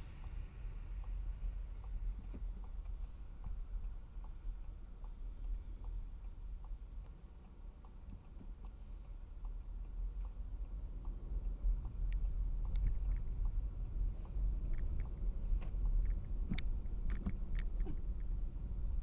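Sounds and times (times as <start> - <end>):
car driving rumble inside: 0.0 - 19.0
sharp clicks and ticks: 1.8 - 18.4.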